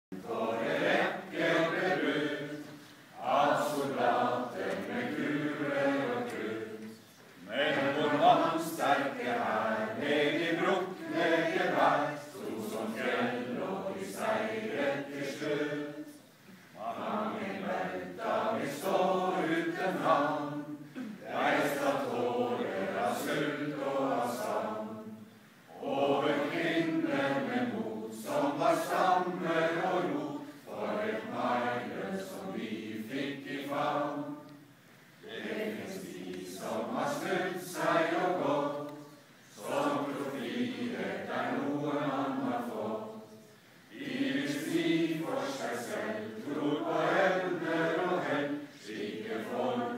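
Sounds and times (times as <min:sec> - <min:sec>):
group of people singing: 0:00.1 - 0:49.9.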